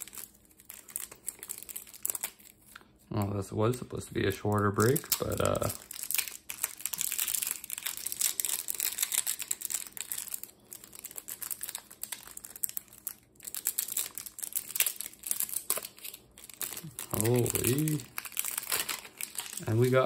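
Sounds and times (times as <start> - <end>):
plastic wrap crinkling: 0.0 - 20.0.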